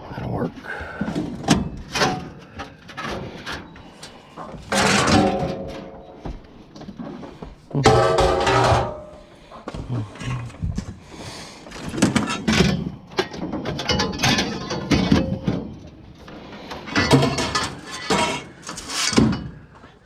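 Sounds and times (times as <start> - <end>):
objects knocking and rattling: 1.0 - 11.0, 11.7 - 20.0.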